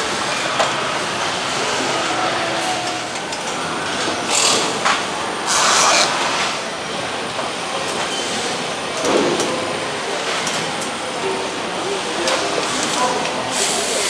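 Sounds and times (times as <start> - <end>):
factory mechanical din: 0.0 - 14.0.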